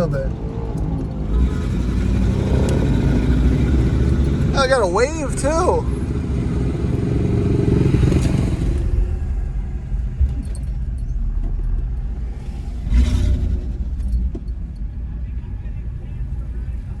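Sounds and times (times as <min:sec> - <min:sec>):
misfiring engine rumble in cabin: 0:01.1 - 0:17.0.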